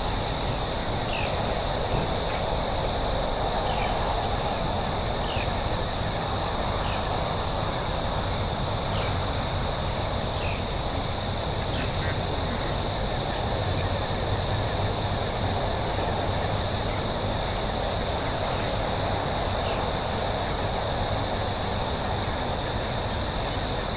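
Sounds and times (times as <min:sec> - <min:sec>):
crickets trilling: 0:00.0 - 0:23.9.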